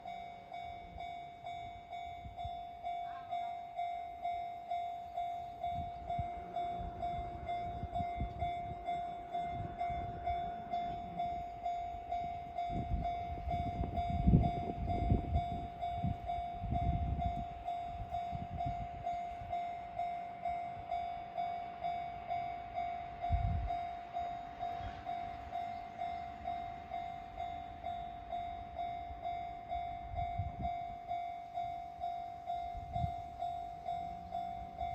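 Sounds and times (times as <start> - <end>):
level crossing warning bell: 0.0 - 34.9
train rumbling over crossing: 0.0 - 34.9.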